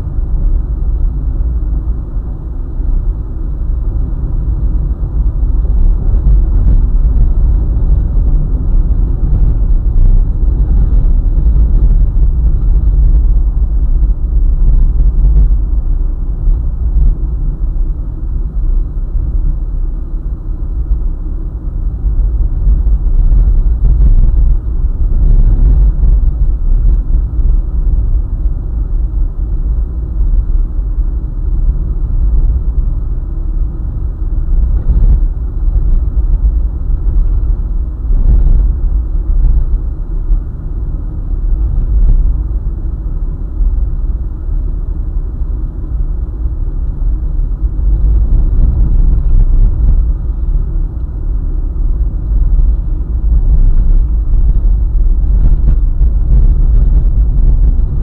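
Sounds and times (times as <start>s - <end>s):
car driving on highway: 0.0s - 58.0s.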